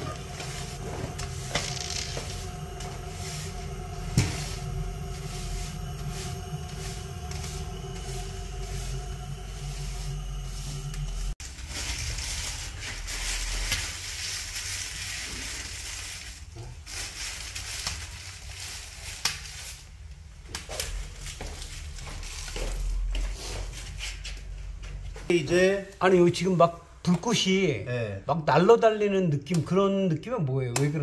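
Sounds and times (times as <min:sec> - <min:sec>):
wood fire crackling and hissing: 0:00.0 - 0:27.6.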